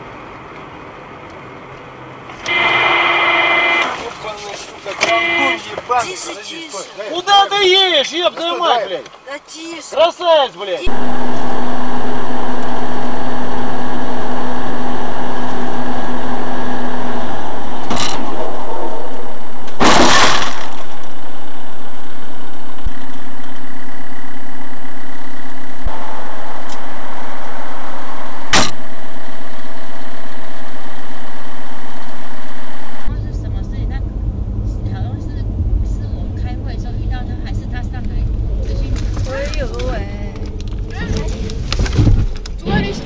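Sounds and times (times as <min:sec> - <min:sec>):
loud car engine and road noise: 0:00.0 - 0:07.0, 0:10.8 - 0:43.0.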